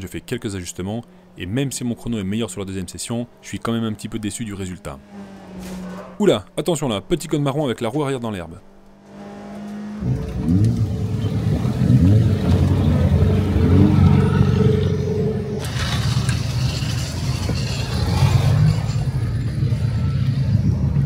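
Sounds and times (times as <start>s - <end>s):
race car engine revving: 0.0s - 6.2s, 8.6s - 21.0s
wind and tyre noise: 0.0s - 21.0s.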